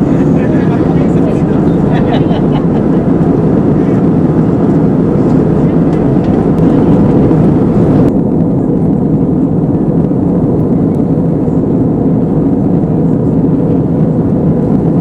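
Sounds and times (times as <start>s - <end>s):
aircraft cabin engine roar: 0.0s - 15.0s.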